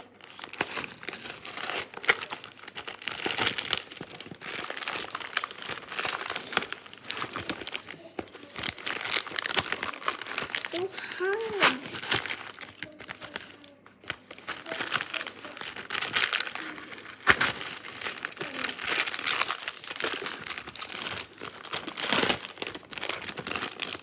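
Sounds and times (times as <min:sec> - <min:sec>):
packaging crinkling by hand: 0:00.0 - 0:24.0.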